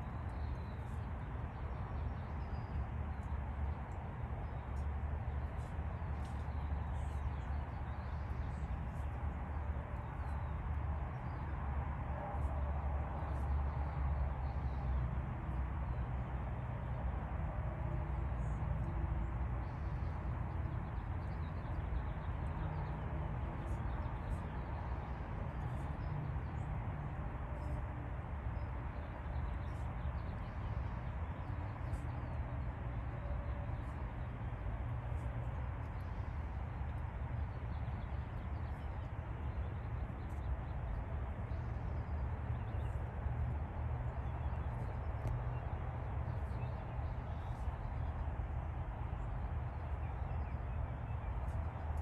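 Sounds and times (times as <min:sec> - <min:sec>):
low outdoor rumble: 0:00.0 - 0:52.0.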